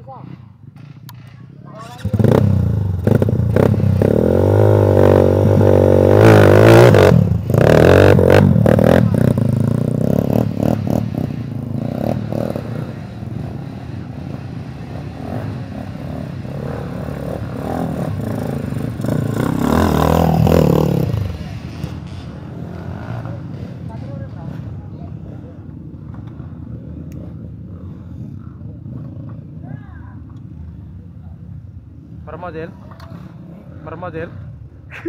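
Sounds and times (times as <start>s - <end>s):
motorcycle rattling on rough ground: 0.7s - 29.7s
motorcycle engine revving: 0.8s - 34.8s.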